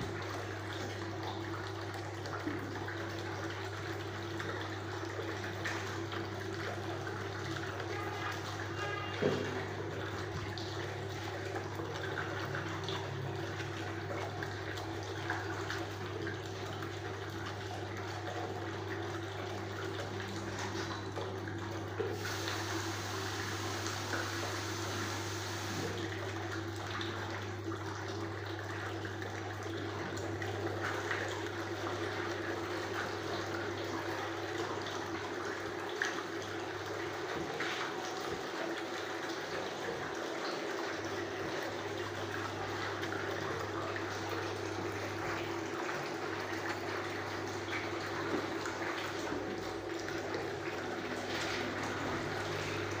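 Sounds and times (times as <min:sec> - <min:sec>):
water rushing in foot spa: 0:00.0 - 0:53.0.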